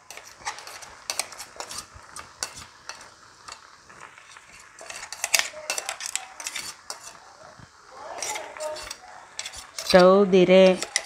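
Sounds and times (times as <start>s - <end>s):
spoon scraping a cooking pan: 0.0s - 11.0s.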